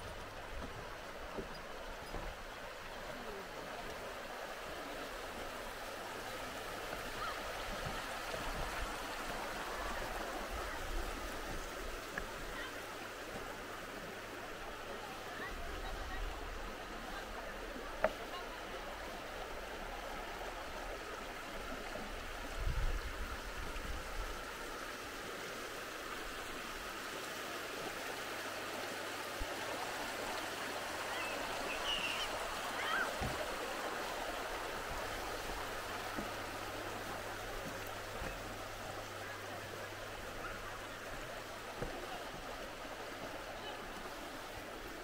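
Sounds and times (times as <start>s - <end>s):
stream water rushing: 0.0s - 45.0s.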